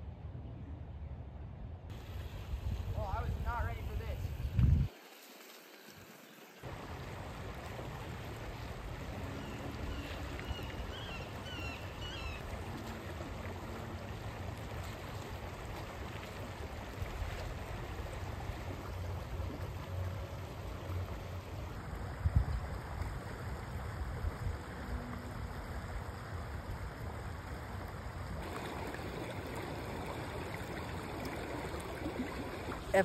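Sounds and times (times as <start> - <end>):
stream flowing over rocks: 4.9 - 33.0.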